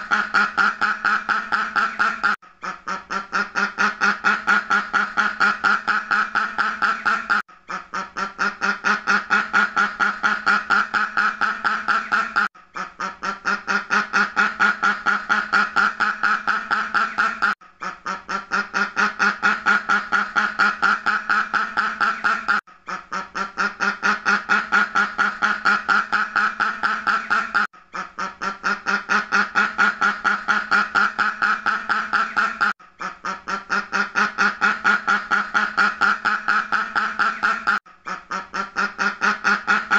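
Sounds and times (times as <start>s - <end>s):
duck quacking rapidly: 0.0s - 39.9s.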